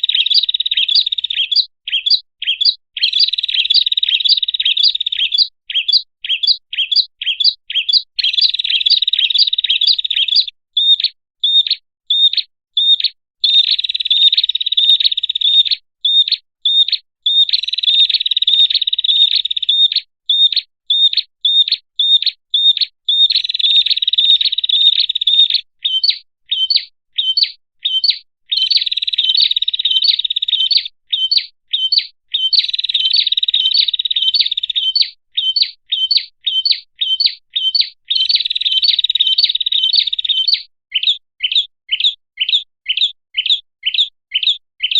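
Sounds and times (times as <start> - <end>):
bird chattering trills: 0.0 - 44.9.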